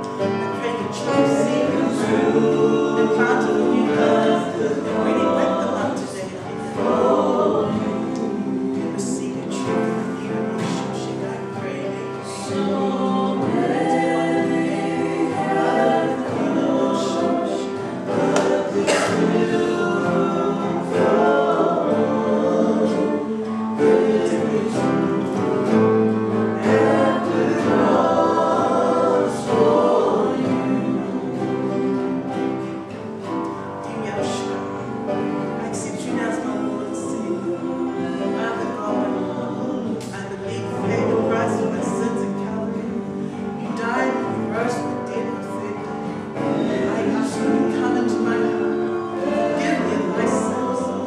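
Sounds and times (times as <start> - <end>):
gospel choir singing: 0.0 - 51.0.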